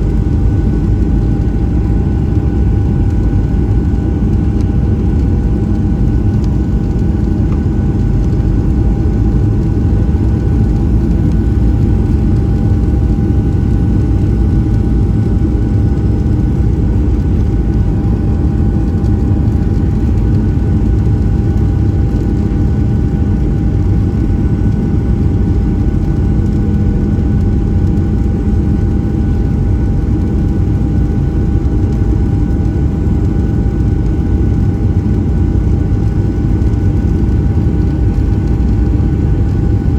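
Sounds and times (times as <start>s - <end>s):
airplane cabin rumble: 0.0s - 39.9s
jet engine whine: 0.0s - 39.9s.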